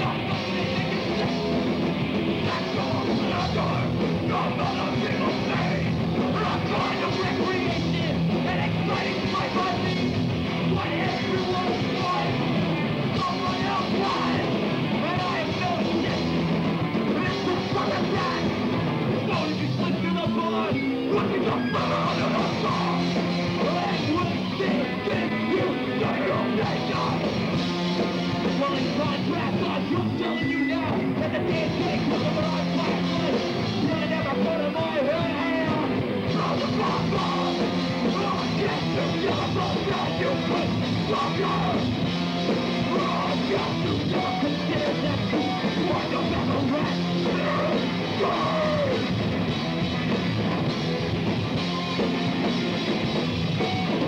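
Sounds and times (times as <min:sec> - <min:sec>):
shouted vocals: 0:00.0 - 0:01.6, 0:02.4 - 0:27.5, 0:28.4 - 0:49.2
punk band playing live: 0:00.0 - 0:54.0.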